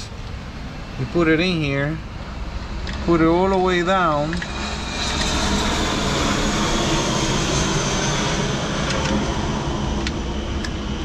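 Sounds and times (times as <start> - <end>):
faint high whine: 0.0 - 11.0
steady rumbling: 0.0 - 11.0.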